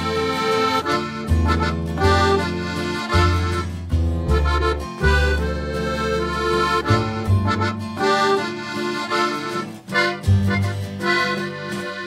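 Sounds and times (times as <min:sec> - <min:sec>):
low bass line: 0:00.0 - 0:12.0
reedy chords: 0:00.0 - 0:12.0.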